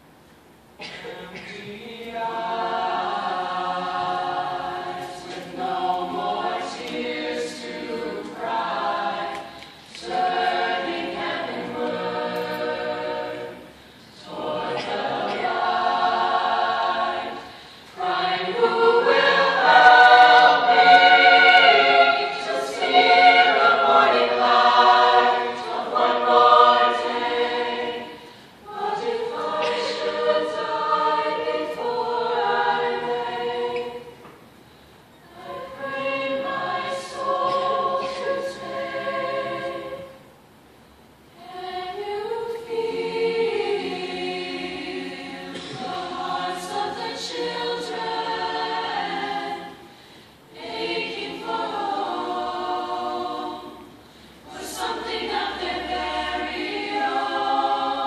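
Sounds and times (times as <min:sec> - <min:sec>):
choir singing: 0:00.8 - 0:34.4, 0:35.2 - 0:40.4, 0:41.4 - 0:58.0.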